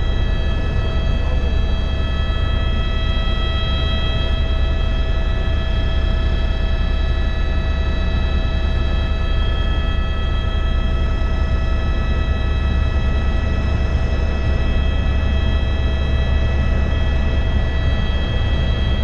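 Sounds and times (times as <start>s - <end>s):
engine whine: 0.0s - 19.0s
helicopter rotor drone: 0.0s - 19.0s.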